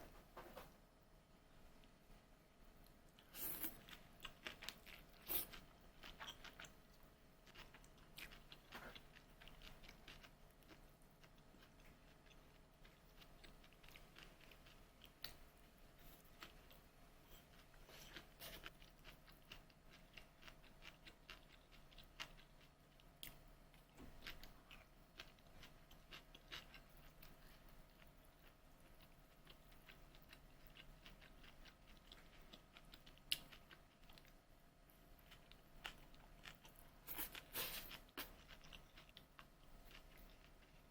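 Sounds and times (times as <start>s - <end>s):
faint chewing with crunches: 1.6s - 40.9s.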